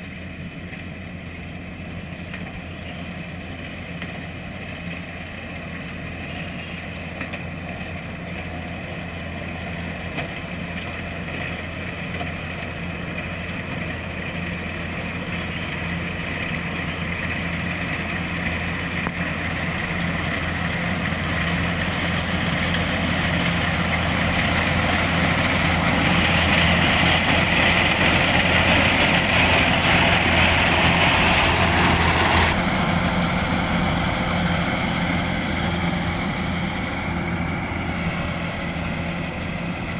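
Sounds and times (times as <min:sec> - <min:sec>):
combine harvester engine: 0:00.0 - 0:39.9
threshing machinery running: 0:02.1 - 0:39.9.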